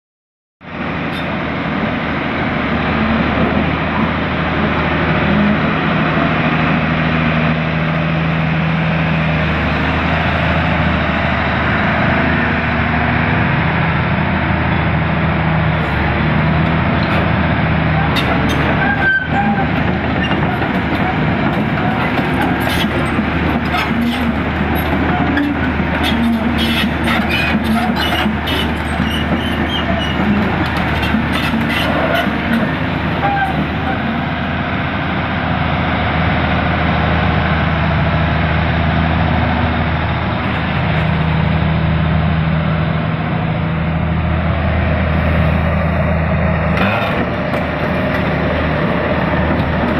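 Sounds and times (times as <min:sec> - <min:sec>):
excavator diesel engine running: 0:00.6 - 0:49.9.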